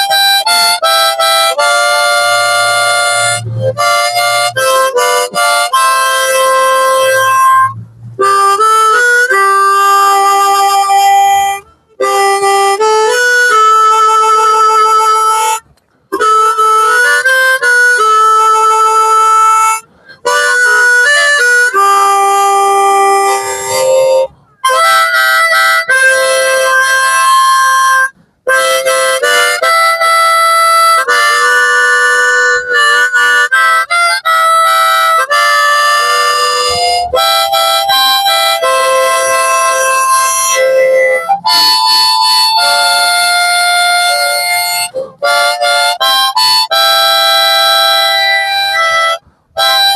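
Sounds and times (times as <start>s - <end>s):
harmonica melody: 0.0s - 49.9s.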